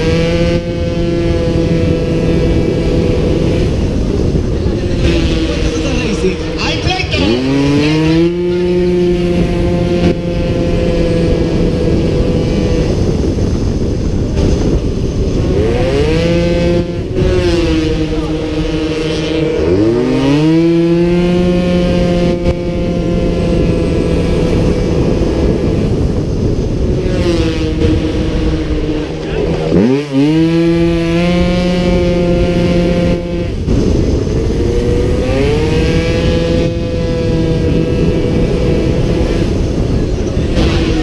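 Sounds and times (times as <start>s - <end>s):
scooter engine revving high: 0.0s - 41.0s
wind rushing past microphone: 0.0s - 41.0s.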